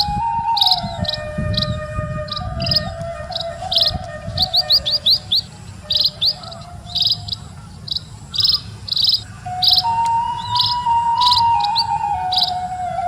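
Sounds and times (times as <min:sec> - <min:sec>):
held flute note: 0:00.0 - 0:07.4, 0:09.4 - 0:13.0
small birds chirping: 0:00.0 - 0:13.0.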